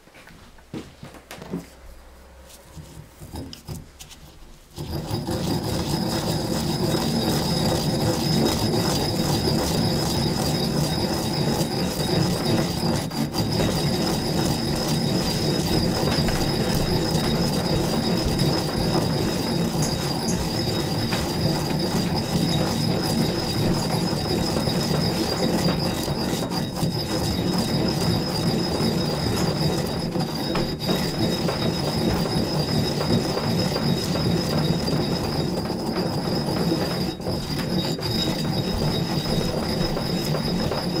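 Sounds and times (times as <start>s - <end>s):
stone-on-stone grinding: 2.4s - 41.0s
pestle knocking in mortar: 2.8s - 4.2s, 4.8s - 41.0s
thin high squeal: 4.8s - 41.0s.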